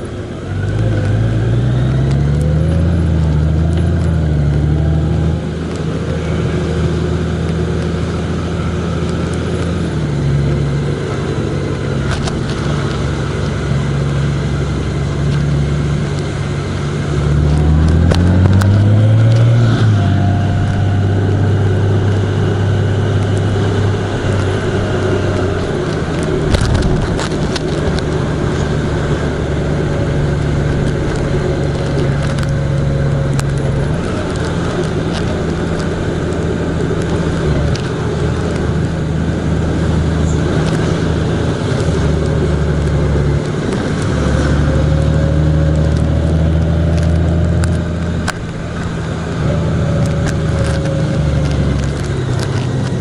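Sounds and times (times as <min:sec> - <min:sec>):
road and wind noise: 0:00.0 - 0:53.0
vehicle engine droning: 0:00.0 - 0:53.0.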